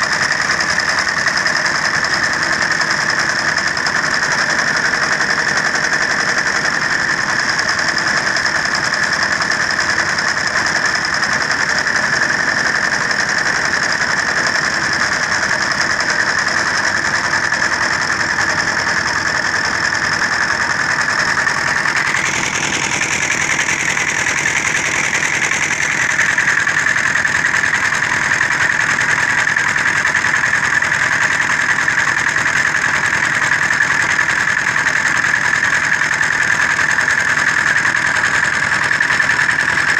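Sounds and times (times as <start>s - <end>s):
diesel concrete mixer running: 0.0s - 39.9s.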